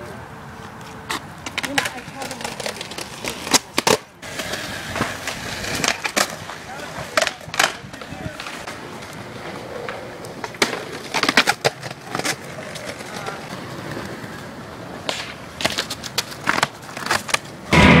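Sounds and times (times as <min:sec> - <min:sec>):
skateboard rolling on asphalt: 0:00.0 - 0:18.0
skateboard clacking: 0:00.7 - 0:17.8.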